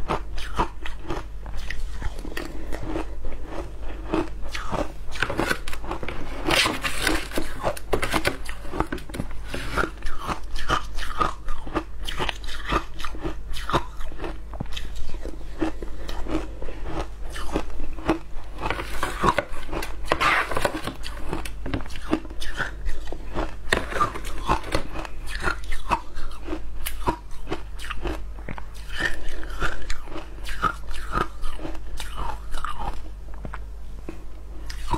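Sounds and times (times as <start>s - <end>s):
person crunching shaved ice: 0.0s - 28.2s, 28.8s - 33.0s.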